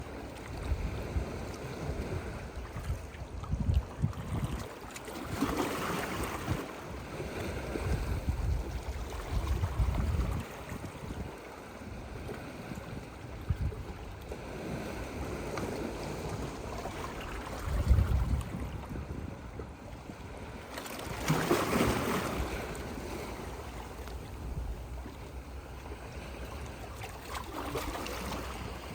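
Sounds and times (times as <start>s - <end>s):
wind rumble on microphone: 0.0s - 28.9s
sea waves washing: 4.6s - 28.9s.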